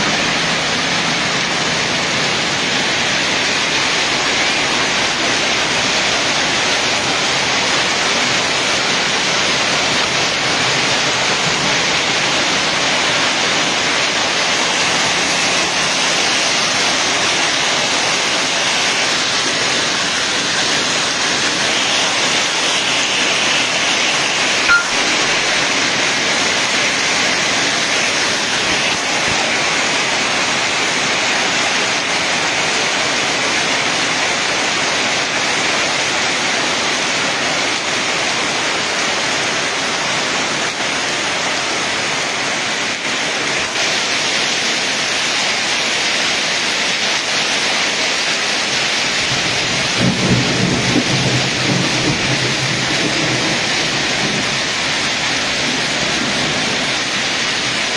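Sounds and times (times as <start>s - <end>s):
heavy rain and hail: 0.0s - 57.9s.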